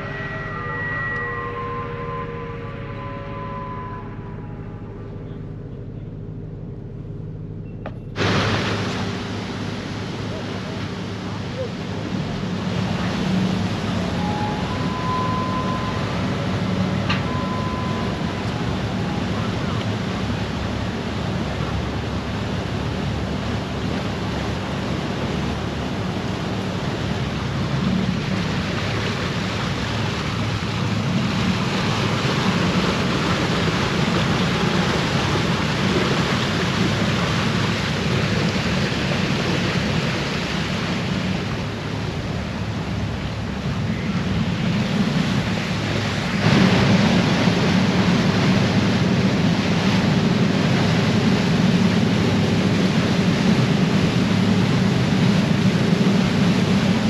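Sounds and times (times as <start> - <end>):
low ship engine hum: 0.0 - 57.0
water and ice churning: 7.9 - 57.0.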